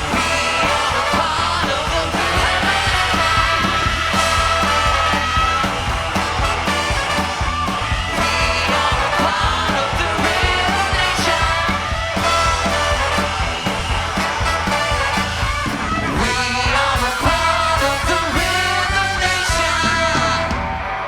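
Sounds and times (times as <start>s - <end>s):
person singing: 0.0s - 13.4s, 16.1s - 20.8s
live soul band playing: 0.0s - 21.0s.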